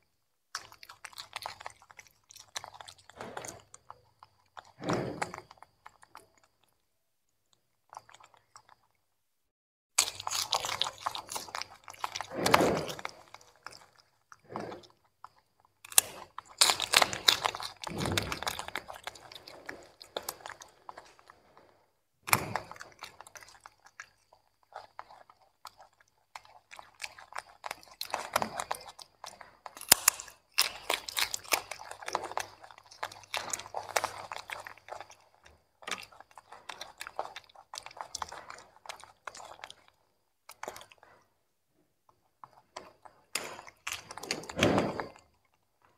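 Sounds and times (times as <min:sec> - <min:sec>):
monkeys chewing vegetables: 0:00.5 - 0:06.8, 0:07.5 - 0:09.1, 0:10.0 - 0:45.9.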